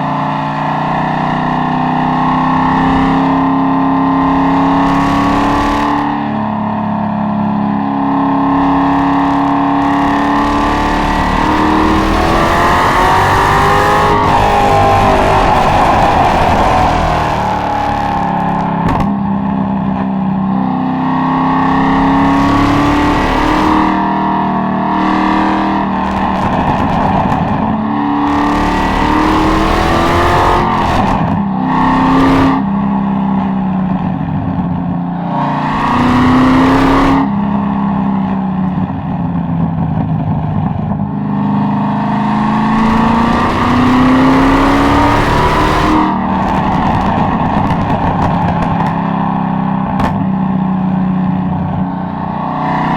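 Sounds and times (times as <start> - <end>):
car engine accelerating through gears: 0.0 - 52.9.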